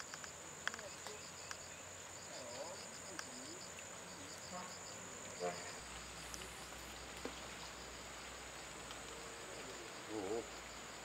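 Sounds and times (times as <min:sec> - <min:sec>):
insect chirping: 0:00.0 - 0:11.0
insects droning: 0:00.0 - 0:11.0.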